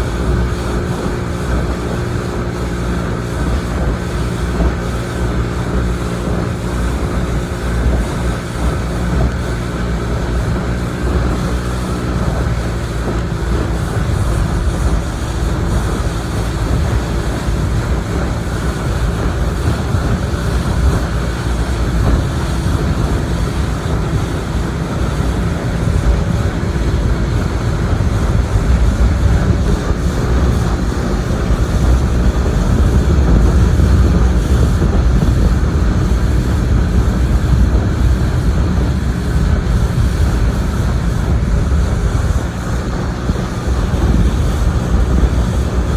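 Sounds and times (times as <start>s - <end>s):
motorboat engine running: 0.0s - 45.9s
wind on microphone: 0.0s - 45.9s.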